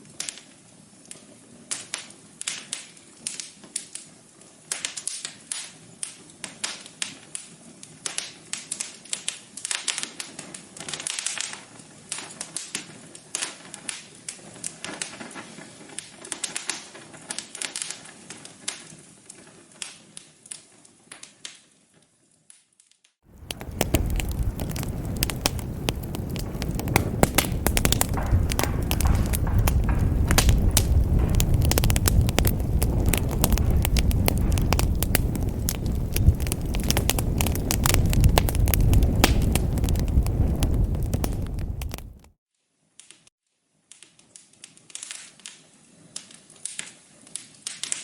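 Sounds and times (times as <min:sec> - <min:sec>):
wood fire crackling: 0:00.0 - 0:21.7, 0:23.3 - 0:42.3, 0:43.9 - 0:48.0.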